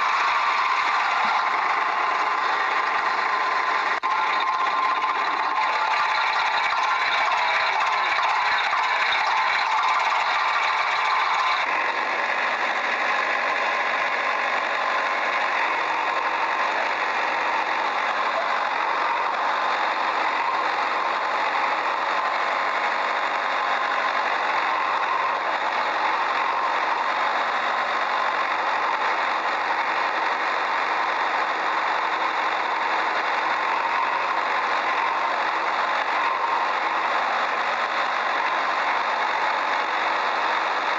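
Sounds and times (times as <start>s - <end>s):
engine idling with knocking rattle: 0.0s - 40.9s.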